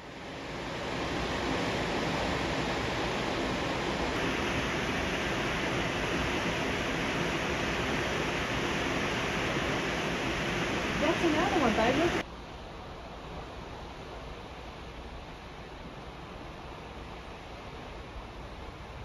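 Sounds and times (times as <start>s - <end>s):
rushing water: 0.0s - 19.0s
wind: 0.0s - 19.0s.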